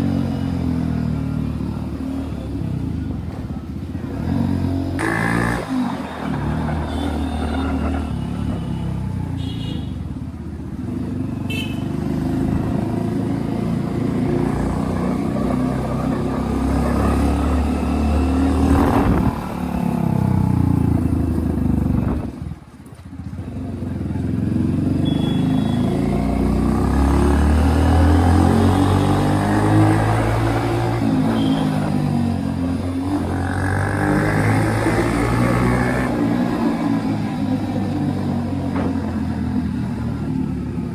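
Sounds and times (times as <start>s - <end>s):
motorcycle engine revving: 0.0s - 22.7s, 23.6s - 40.9s.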